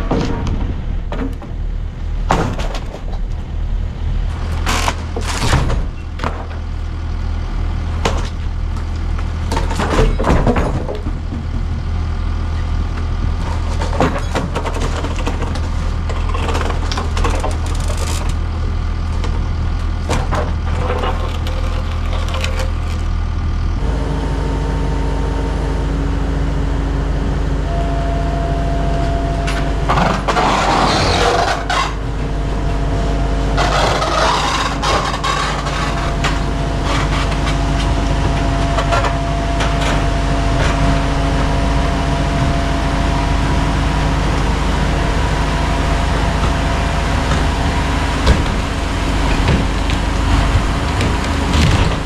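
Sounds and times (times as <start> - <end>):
diesel loader engine running: 0.0 - 52.0.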